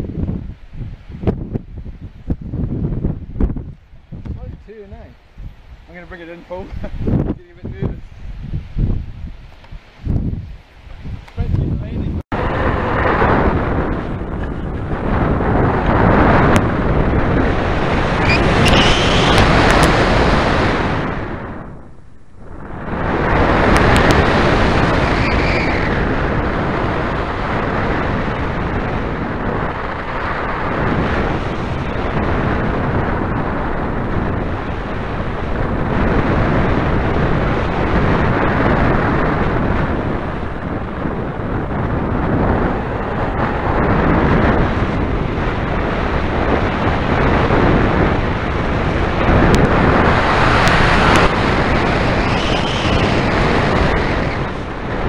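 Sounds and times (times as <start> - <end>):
airflow rushing over microphone: 0.0 - 55.0.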